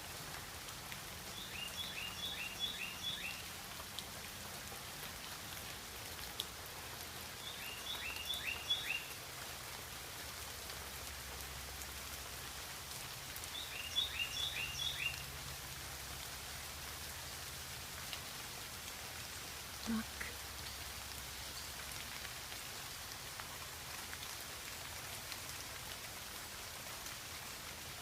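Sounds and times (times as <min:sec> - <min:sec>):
rain falling on foliage: 0:00.0 - 0:28.0.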